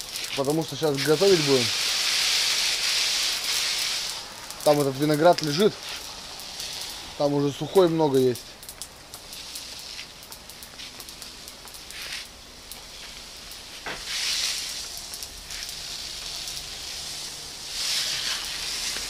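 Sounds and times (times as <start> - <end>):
water spray hissing: 0.0 - 19.0.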